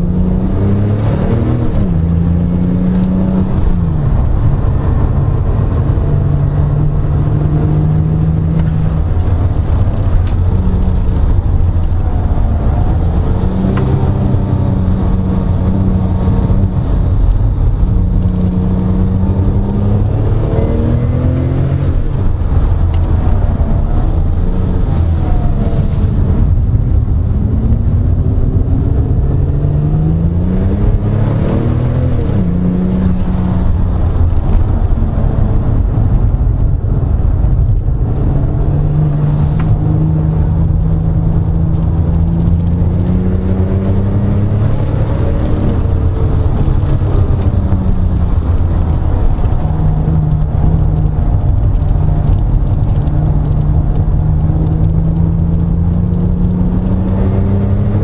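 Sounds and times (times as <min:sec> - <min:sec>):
car engine accelerating: 0:00.0 - 0:58.0
tyre and wind noise: 0:00.0 - 0:58.0.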